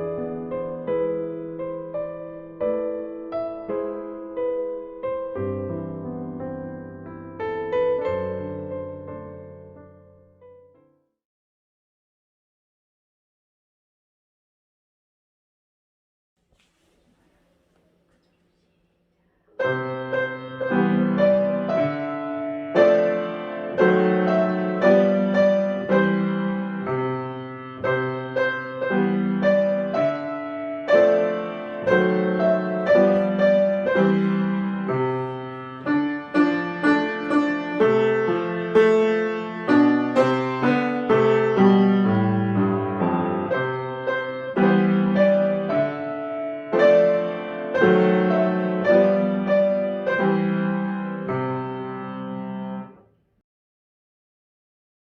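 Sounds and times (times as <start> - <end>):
piano chords and melody: 0.0 - 11.0, 19.6 - 53.1.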